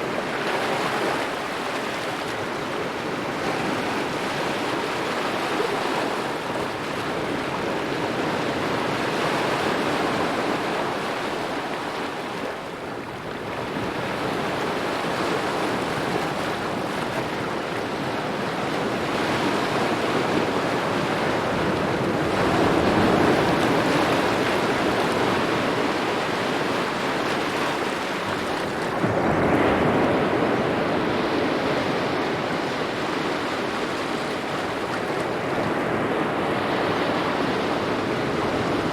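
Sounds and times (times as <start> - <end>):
small waves lapping at shore: 0.0 - 38.9.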